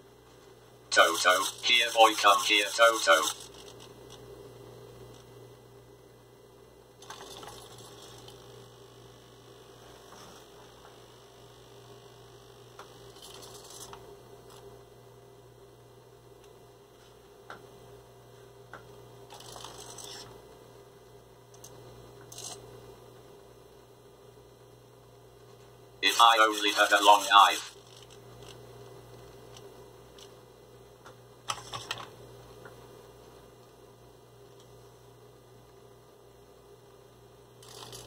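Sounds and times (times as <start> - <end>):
faint electrical hum: 0.0 - 38.0.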